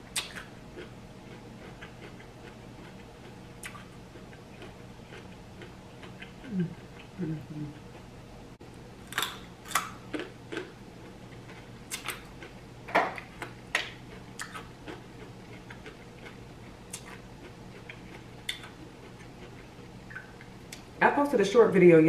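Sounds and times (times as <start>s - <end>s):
carrot crunching and chewing: 0.1s - 7.2s, 9.0s - 20.8s.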